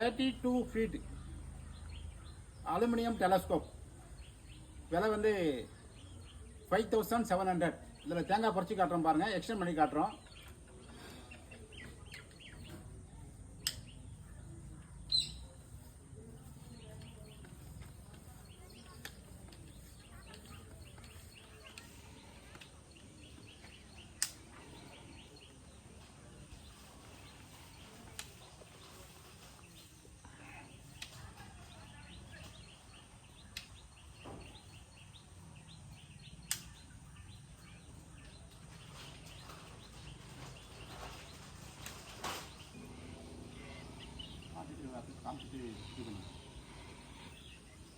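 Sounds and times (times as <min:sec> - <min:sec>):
birds chirping faintly: 0:00.0 - 0:47.9.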